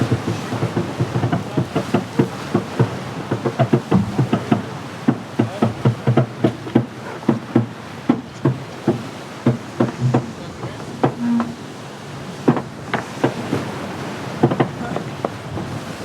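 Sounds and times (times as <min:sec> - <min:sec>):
rapid irregular knocks and taps: 0:00.0 - 0:11.7, 0:12.4 - 0:15.8.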